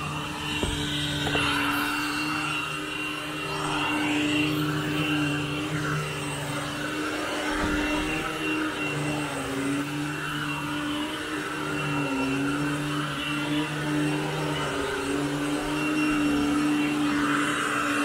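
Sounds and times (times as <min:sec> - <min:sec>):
upright vacuum cleaner running: 0:00.0 - 0:18.0.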